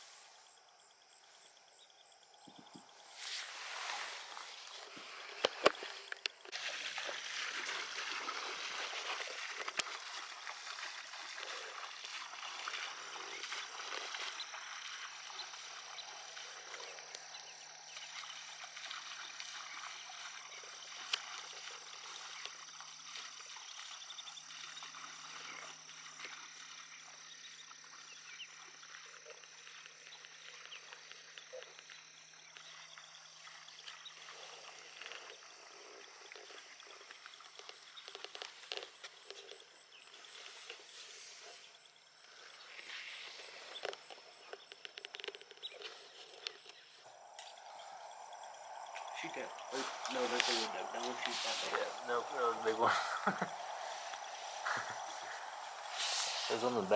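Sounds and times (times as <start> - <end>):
chorus of tiny ticks and chirps: 0.1 - 56.9.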